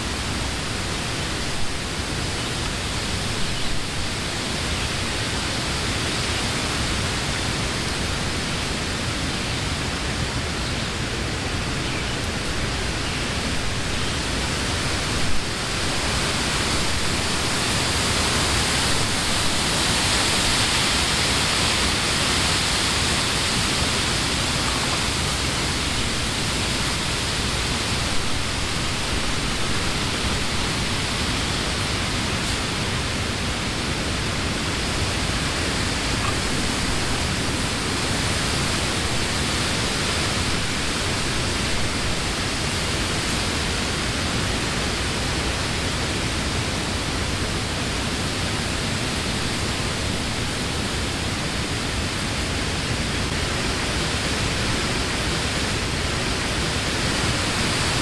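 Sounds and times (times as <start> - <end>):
wind blowing through leafy trees: 0.0 - 58.0.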